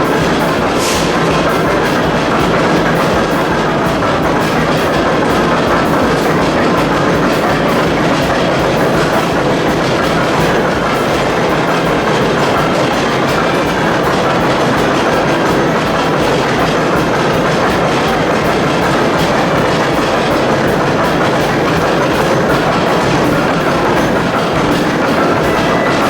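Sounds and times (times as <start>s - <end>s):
steam machinery clattering: 0.0s - 26.0s.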